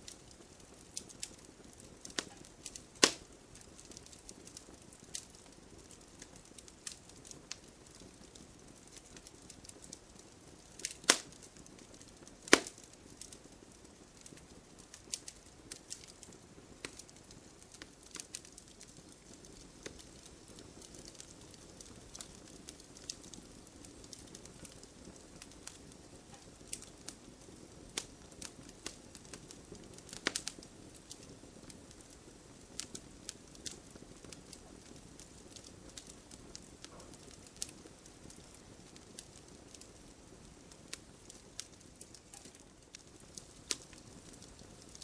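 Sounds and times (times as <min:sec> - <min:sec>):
soft rumble of burning: 0:00.0 - 0:45.0
wood fire crackling and popping: 0:00.0 - 0:45.0.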